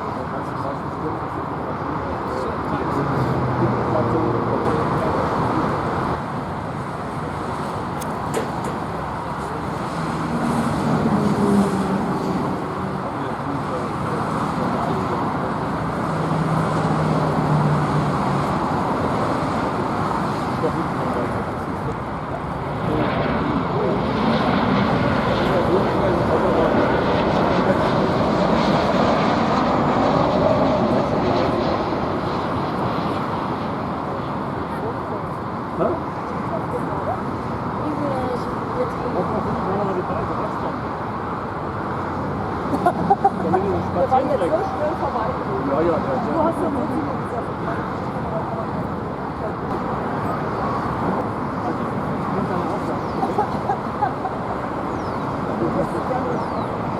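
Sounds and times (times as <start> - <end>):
jet airliner engine rumble: 0.0 - 56.9.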